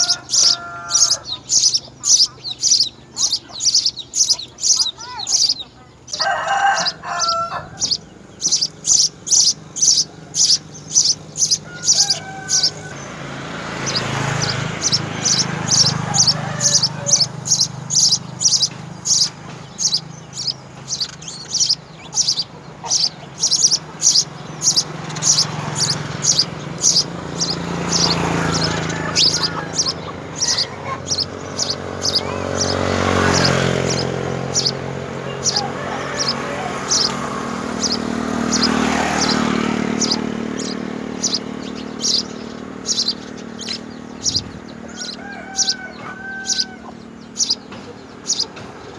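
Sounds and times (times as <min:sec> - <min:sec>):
sparrow chirping: 0:00.0 - 0:48.9.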